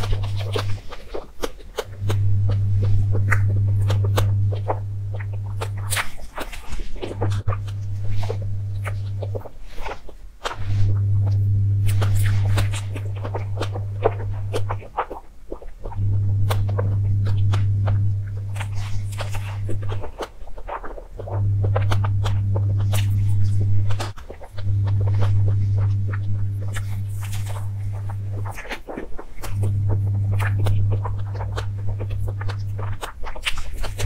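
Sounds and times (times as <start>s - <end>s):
loud low hum: 0.0s - 0.9s, 1.8s - 9.5s, 10.5s - 15.0s, 15.9s - 20.1s, 21.2s - 28.8s, 29.4s - 34.0s
wet chewing and mouth clicks: 0.0s - 34.0s.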